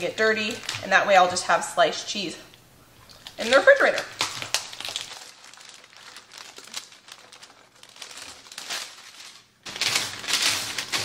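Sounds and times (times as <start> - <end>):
parchment paper crinkling: 0.0 - 1.6, 3.1 - 11.0.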